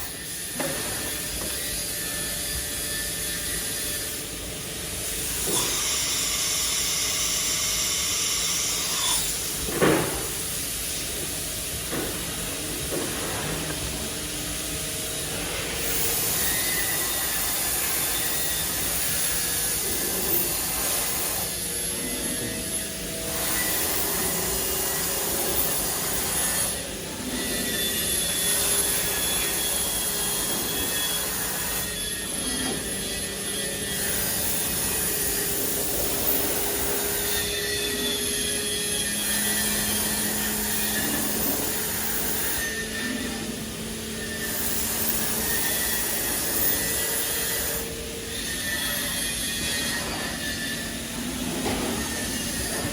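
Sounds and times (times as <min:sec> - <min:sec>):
machine whirr and hiss: 0:00.0 - 0:52.9.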